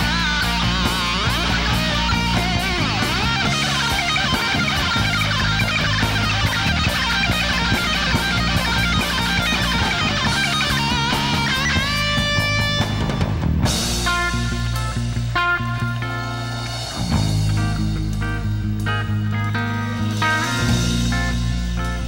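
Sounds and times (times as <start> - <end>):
drums with cymbal beat: 0.0 - 19.2, 19.9 - 22.0
bass guitar: 0.0 - 22.0
electric guitar lead: 0.0 - 22.0.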